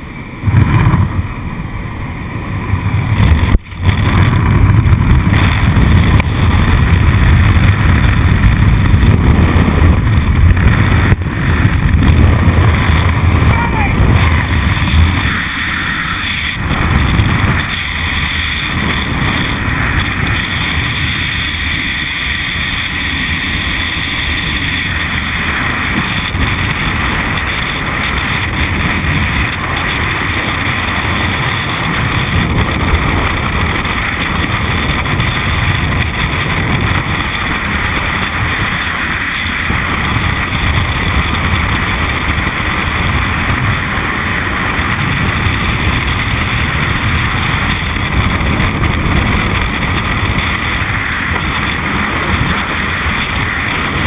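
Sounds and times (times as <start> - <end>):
freefall wind buffeting microphone: 0.0 - 54.0.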